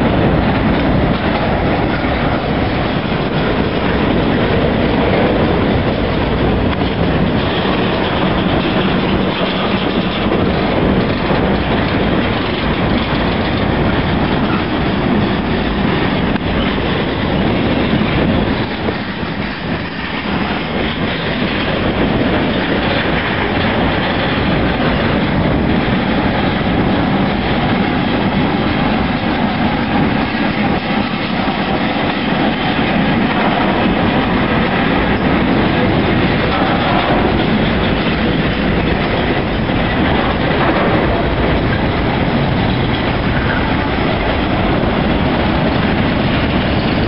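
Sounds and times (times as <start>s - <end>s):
freight cars rolling on rails: 0.0s - 47.0s.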